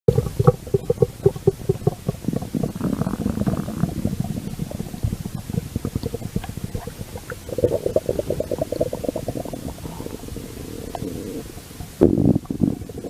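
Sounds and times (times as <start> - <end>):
stomach growling: 0.1 - 13.0.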